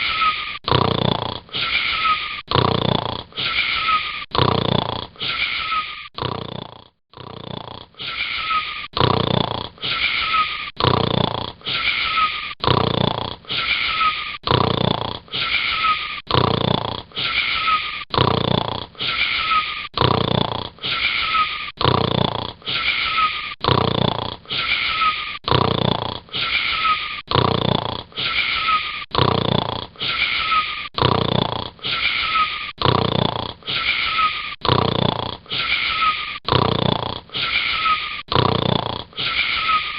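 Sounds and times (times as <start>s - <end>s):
snoring with whistling wheeze: 0.0s - 39.9s.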